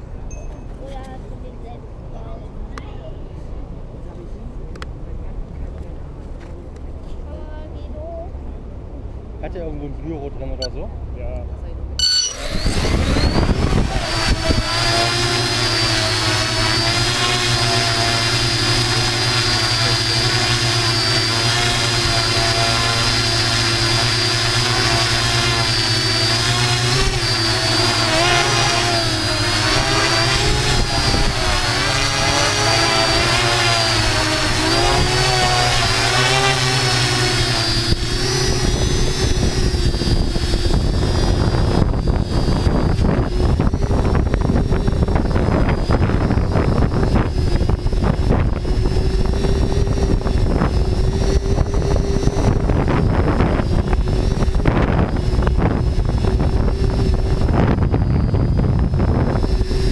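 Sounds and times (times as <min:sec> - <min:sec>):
drone propellers whining: 0:11.8 - 0:59.9.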